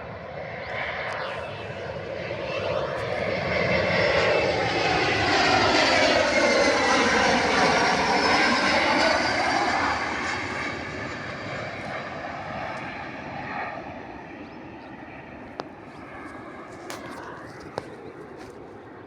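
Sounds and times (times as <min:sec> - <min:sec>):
airliner engine and rushing noise: 0:00.0 - 0:19.0.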